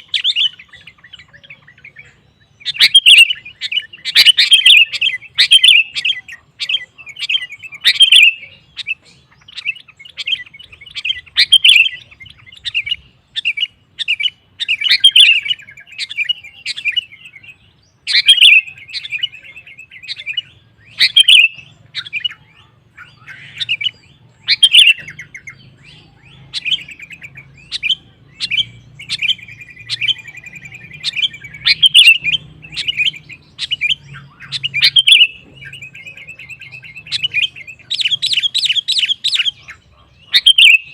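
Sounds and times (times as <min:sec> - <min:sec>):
bird chirping phrases: 0:00.0 - 0:40.9.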